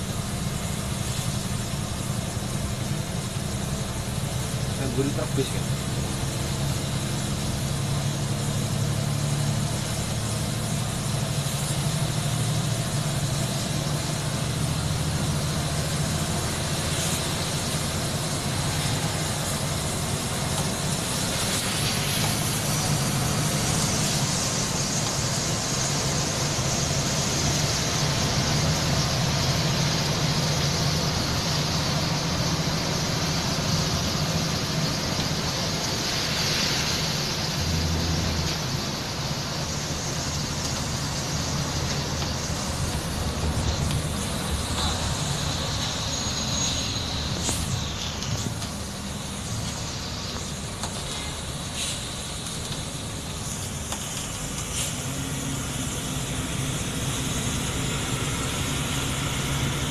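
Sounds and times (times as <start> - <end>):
bus engine running: 0.0 - 59.9
tyres hissing on wet road: 0.0 - 59.9.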